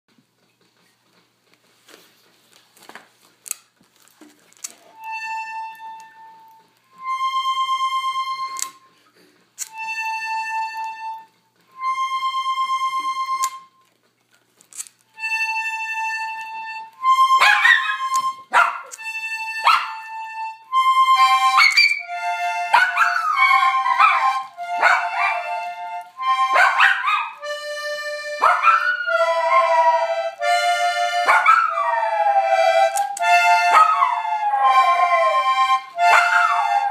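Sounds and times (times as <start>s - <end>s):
accordion slow held notes: 4.9s - 13.9s, 15.1s - 26.6s, 27.4s - 36.9s.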